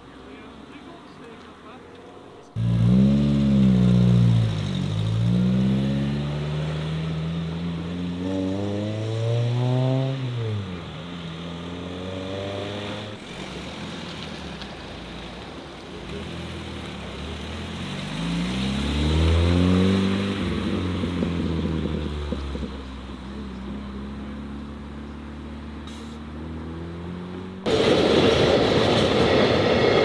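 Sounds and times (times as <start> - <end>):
car engines accelerating: 0.0 - 28.8.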